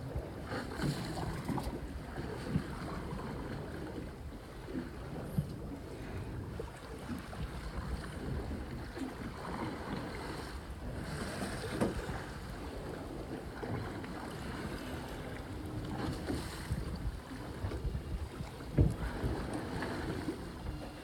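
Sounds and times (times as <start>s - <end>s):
sea water washing around boat: 0.0s - 21.0s
wind buffeting microphone: 0.0s - 21.0s.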